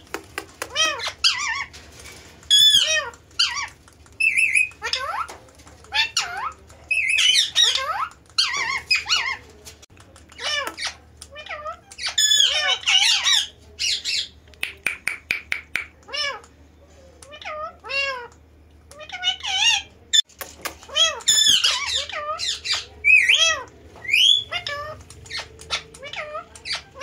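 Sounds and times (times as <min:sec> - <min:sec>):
parakeets squawking and chattering: 0:00.0 - 0:14.4, 0:15.2 - 0:16.6, 0:17.2 - 0:27.0.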